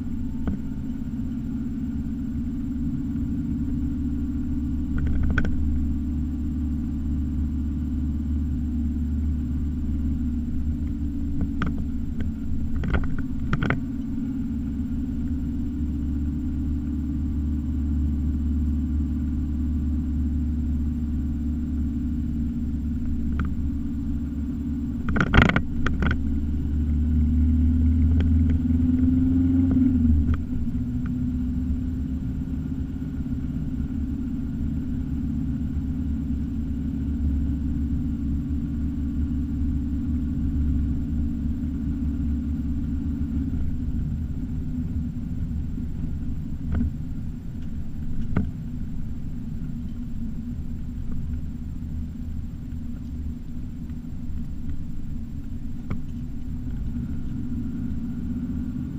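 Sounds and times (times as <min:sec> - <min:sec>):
engine and tyre rumble: 0:00.0 - 0:58.9.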